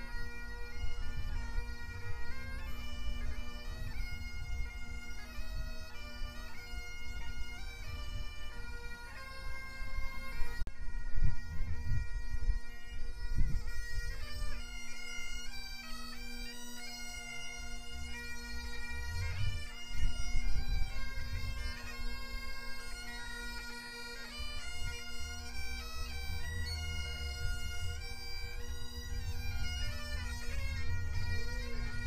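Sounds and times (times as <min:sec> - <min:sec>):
bagpipes playing a tune: 0:00.0 - 0:32.0.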